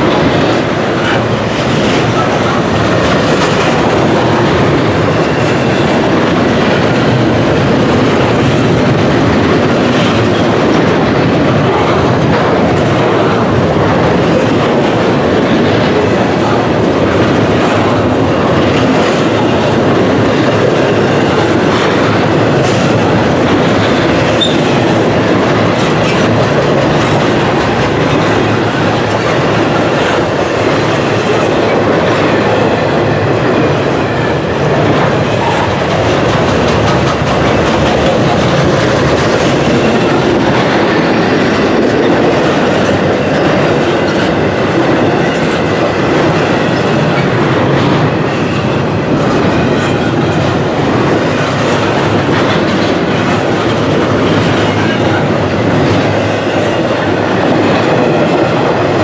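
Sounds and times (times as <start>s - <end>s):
freight train wheels rumbling: 0.0s - 59.0s
wheels clacking over rail joints: 0.0s - 59.0s.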